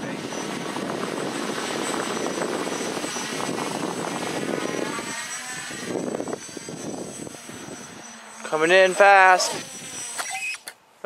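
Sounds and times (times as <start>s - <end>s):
quadcopter motors buzzing: 0.0s - 10.8s.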